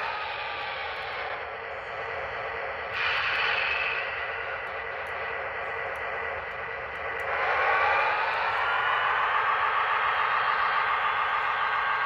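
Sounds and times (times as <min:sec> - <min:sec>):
model locomotive diesel engine sound: 0:00.0 - 0:12.0.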